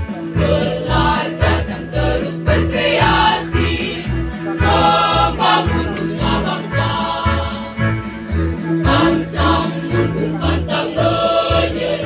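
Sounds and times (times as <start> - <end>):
children's choir singing: 0.4 - 7.8, 8.8 - 12.0.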